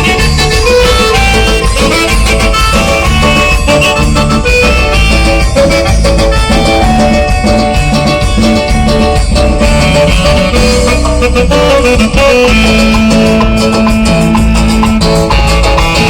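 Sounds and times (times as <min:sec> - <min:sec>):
band playing dance music: 0:00.0 - 0:16.0.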